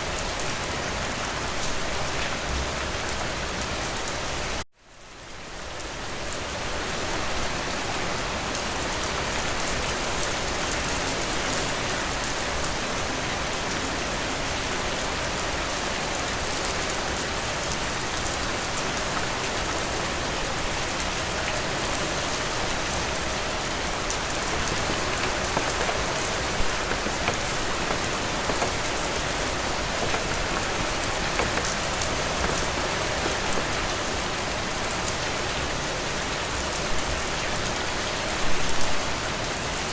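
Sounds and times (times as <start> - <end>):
heavy rain falling: 5.4 - 39.9.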